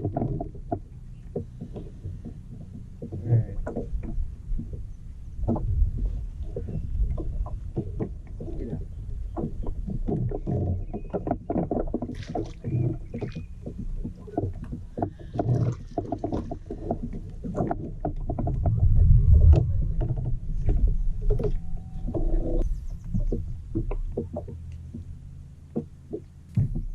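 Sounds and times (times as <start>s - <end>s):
water sloshing against a hull: 0.0s - 26.9s
low rumble: 0.9s - 10.1s, 13.0s - 26.9s.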